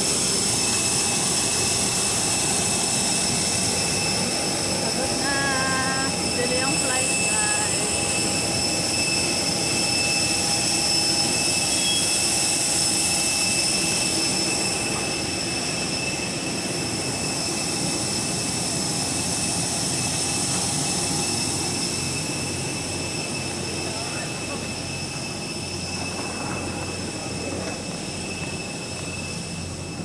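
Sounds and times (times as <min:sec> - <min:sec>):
jet engine rush: 0:00.0 - 0:30.0
high whining tones: 0:00.2 - 0:30.0.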